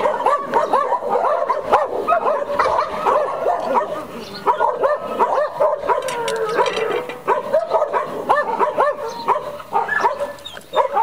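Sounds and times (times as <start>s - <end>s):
dogs whining and yelping: 0.0s - 11.0s.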